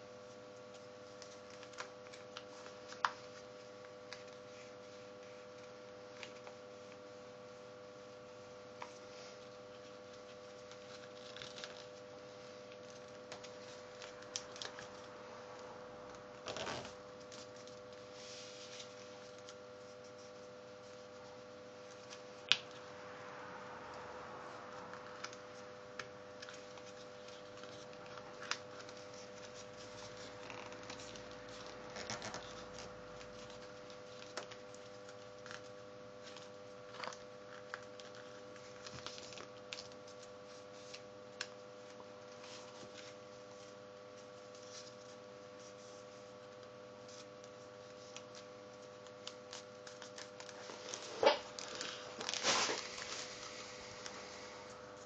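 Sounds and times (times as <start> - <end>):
faint steady hum: 0.0 - 55.0
paper rustling and creasing: 0.2 - 23.2, 23.9 - 55.0.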